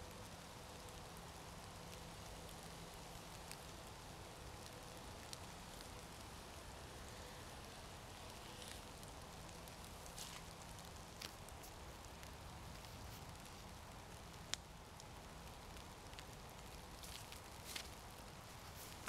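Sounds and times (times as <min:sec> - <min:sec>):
small wood fire crackling: 0:00.0 - 0:19.0.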